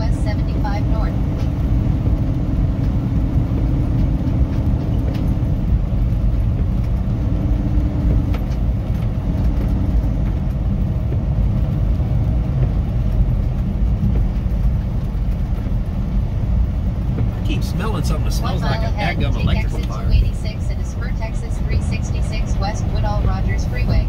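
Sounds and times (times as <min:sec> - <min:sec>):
truck engine drone: 0:00.0 - 0:24.0
tyre noise on wet road: 0:00.0 - 0:24.0.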